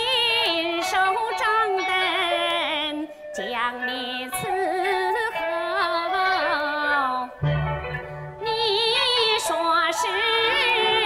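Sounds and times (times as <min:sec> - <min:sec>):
opera melody with heavy vibrato: 0:00.0 - 0:11.0
held accompaniment tone: 0:01.4 - 0:11.0.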